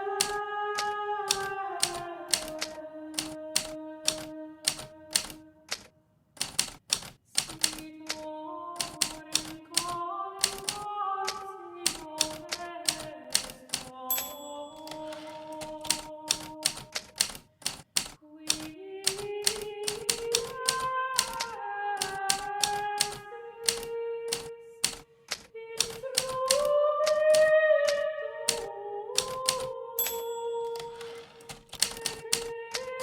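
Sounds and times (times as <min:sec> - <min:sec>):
typewriter keys striking: 0:00.2 - 0:08.2, 0:08.8 - 0:33.0.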